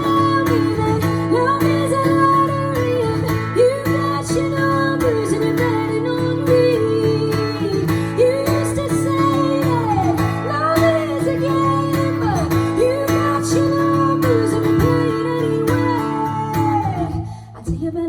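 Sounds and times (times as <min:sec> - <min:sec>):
acoustic guitar strumming: 0:00.0 - 0:17.3
woman singing: 0:00.0 - 0:18.0.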